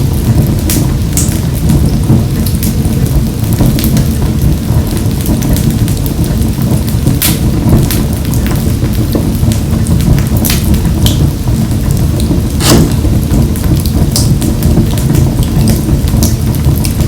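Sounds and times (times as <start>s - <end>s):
wood fire crackling in stove: 0.0s - 17.0s.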